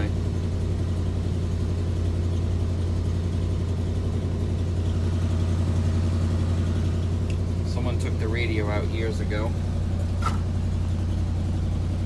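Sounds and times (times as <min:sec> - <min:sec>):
engine running at fast idle: 0:00.0 - 0:12.0.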